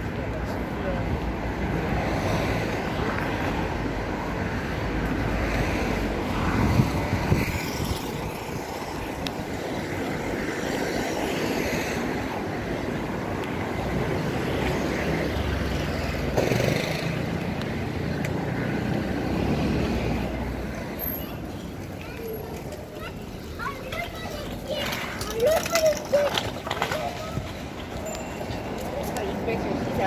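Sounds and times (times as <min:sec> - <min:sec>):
cars and motorbikes passing: 0:00.0 - 0:30.0.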